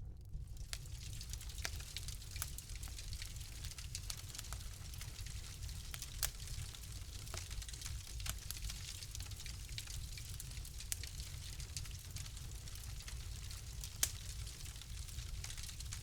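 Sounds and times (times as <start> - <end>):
fire crackling and popping: 0.2 - 16.0.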